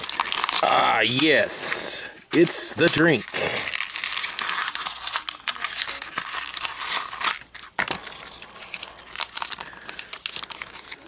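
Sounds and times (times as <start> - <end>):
wrapper rustling: 0.0 - 11.0.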